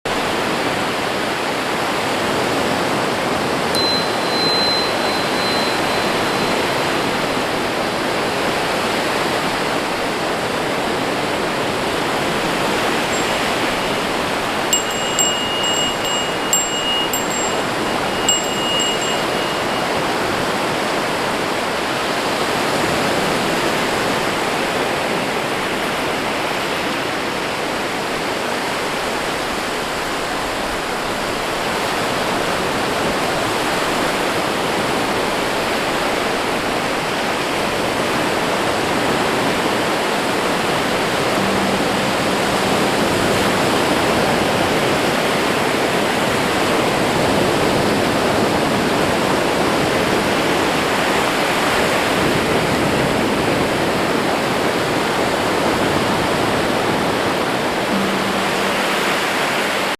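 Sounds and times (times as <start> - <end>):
rushing water: 0.1 - 59.9.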